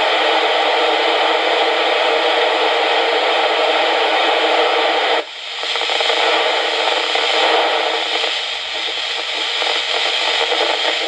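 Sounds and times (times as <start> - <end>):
radio hiss: 0.0 - 11.0
weak noisy radio signal: 0.0 - 11.0.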